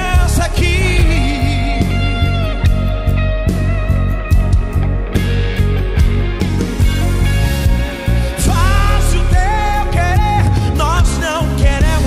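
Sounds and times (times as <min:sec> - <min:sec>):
worship band playing: 0:00.0 - 0:12.0.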